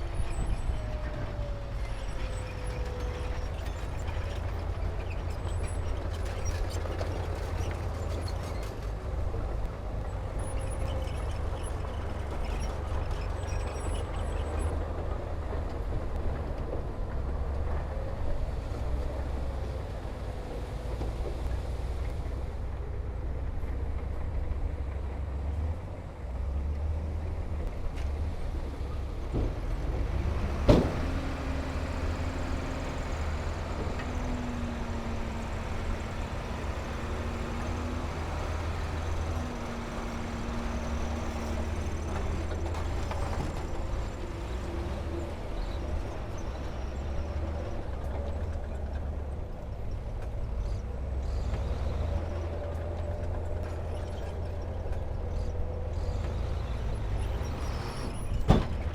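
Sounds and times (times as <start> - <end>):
diesel engine rumbling: 0.0 - 58.9.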